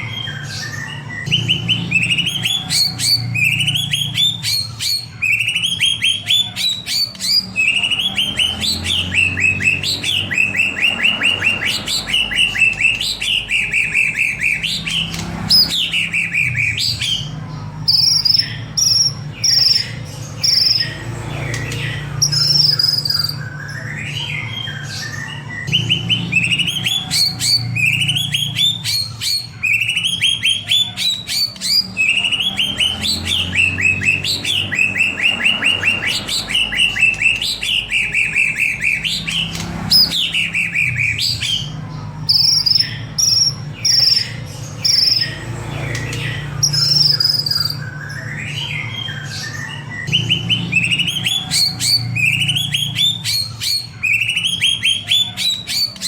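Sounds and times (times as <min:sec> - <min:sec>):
bird singing trilled phrases: 0:00.0 - 0:56.0
high whistled bird notes: 0:00.0 - 0:56.0.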